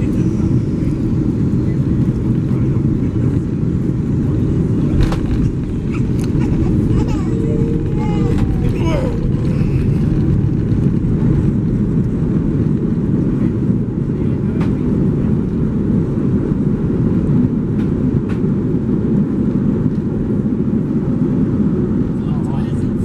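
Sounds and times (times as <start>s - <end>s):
aircraft cabin rumble: 0.0s - 23.0s.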